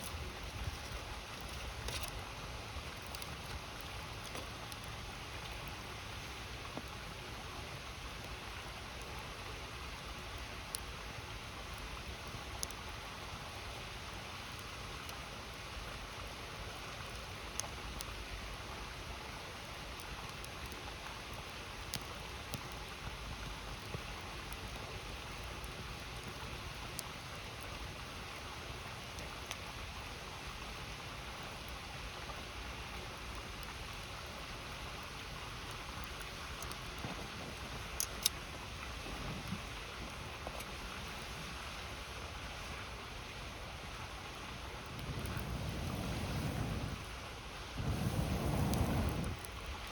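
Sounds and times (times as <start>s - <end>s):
campfire crackling and popping: 0.0s - 7.2s, 7.8s - 49.9s.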